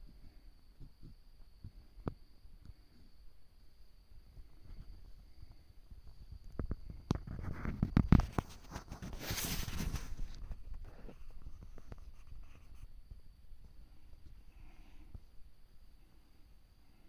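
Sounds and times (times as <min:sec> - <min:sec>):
rustling hiss: 0:02.6 - 0:17.0.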